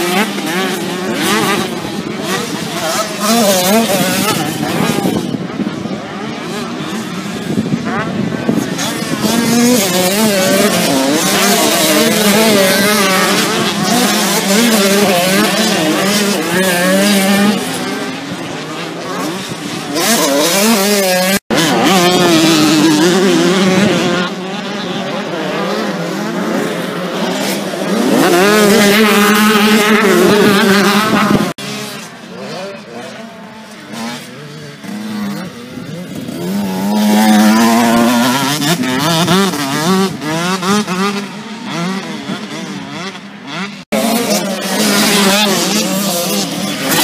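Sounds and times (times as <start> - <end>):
motocross bike engines revving: 0.0 - 47.0.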